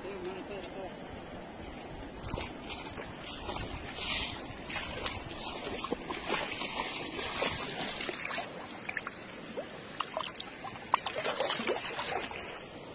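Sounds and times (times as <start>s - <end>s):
seawater sloshing and bubbling: 2.0s - 12.9s.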